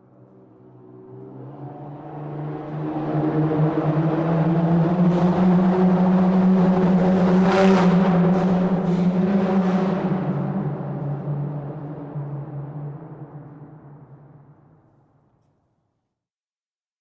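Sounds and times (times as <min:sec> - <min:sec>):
car engine and road hum echoing: 0:00.0 - 0:15.5.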